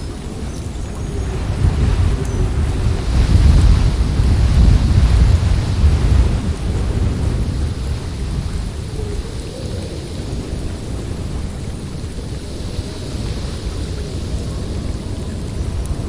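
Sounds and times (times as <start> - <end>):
faint wavering wind howl: 0.0 - 16.0
gusting wind: 0.0 - 16.0.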